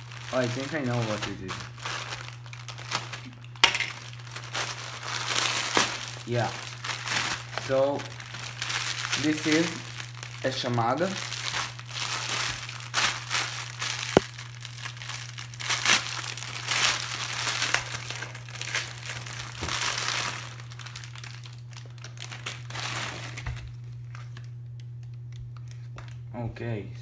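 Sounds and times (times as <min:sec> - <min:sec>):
plastic bag crinkling: 0:00.0 - 0:26.2.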